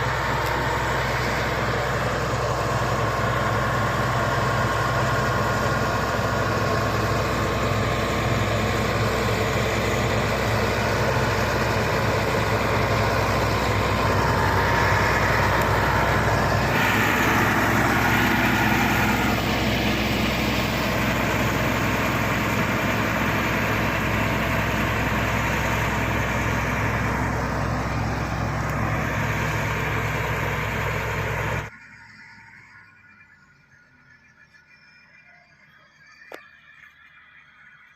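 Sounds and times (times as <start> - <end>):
bulldozer diesel engine running: 0.0 - 37.9.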